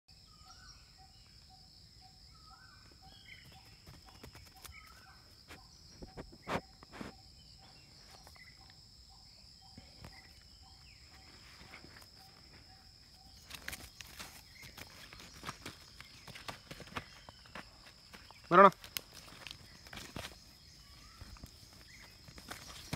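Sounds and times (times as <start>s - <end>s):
bird chirps: 0.1s - 18.6s, 19.2s - 22.9s.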